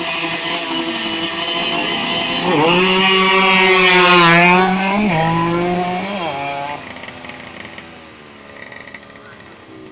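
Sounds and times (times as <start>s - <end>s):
two-stroke engine running at high revs: 0.0s - 9.9s.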